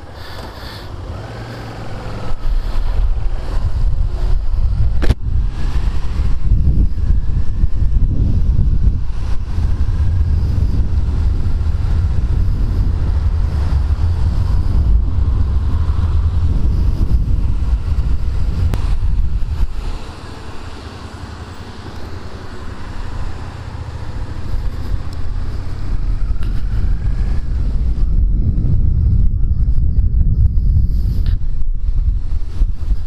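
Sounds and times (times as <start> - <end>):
tyres on wet road: 0.0 - 29.9
motorcycle engine: 0.0 - 33.0
wind rumble in helmet: 0.0 - 33.0.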